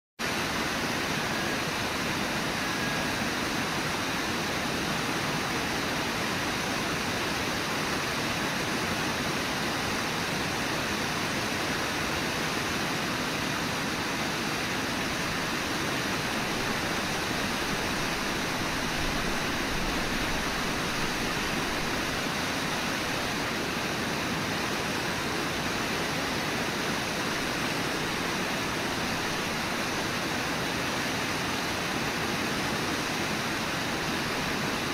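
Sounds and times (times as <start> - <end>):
whitewater roaring: 0.3 - 34.9.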